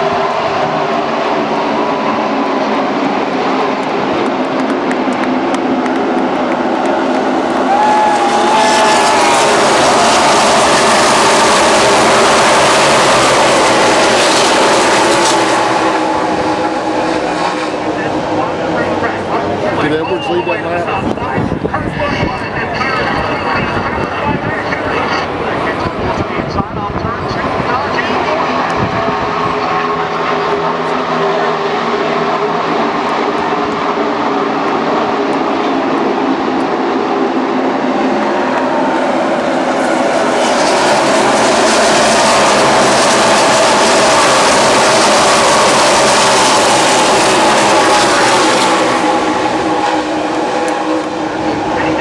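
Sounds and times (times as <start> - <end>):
race cars roaring past: 0.0 - 52.0.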